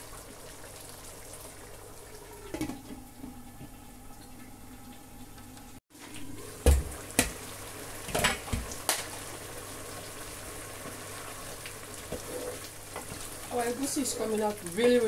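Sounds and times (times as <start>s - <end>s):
soup simmering and bubbling: 0.0s - 14.6s.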